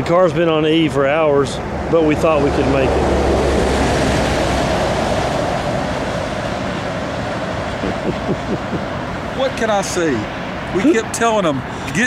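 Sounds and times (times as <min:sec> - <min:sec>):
vehicle passing close by: 0:00.7 - 0:11.2.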